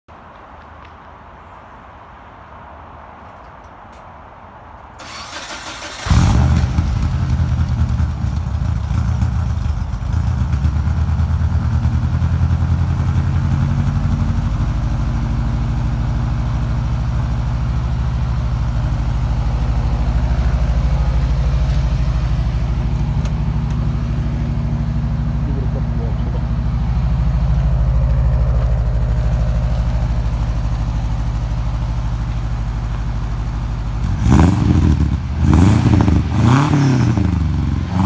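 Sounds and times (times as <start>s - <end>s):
car engine starting and idling: 5.0s - 38.0s.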